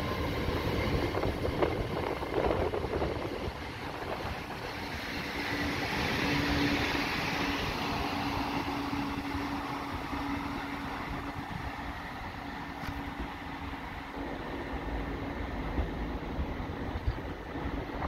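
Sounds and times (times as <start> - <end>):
electric train pulling away: 0.0 - 18.0.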